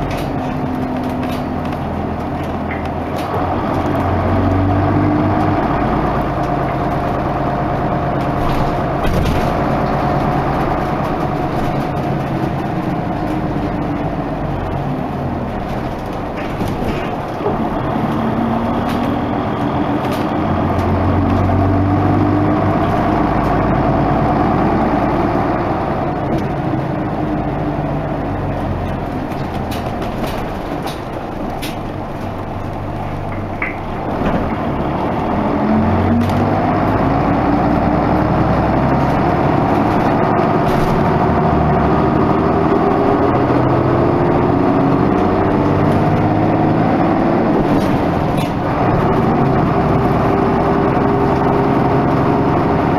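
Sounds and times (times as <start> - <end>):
bus diesel engine pulling: 0.0 - 52.9.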